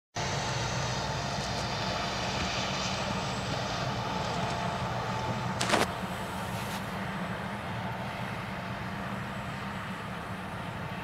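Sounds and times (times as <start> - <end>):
outdoor rumble with hiss: 0.2 - 11.0.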